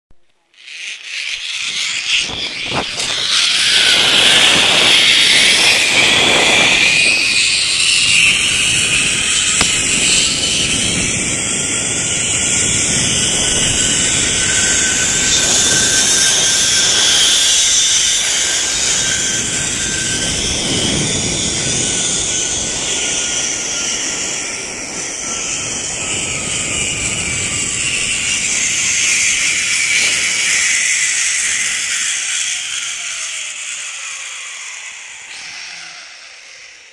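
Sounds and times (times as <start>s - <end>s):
zip-line pulleys whirring on cable: 0.4s - 36.9s.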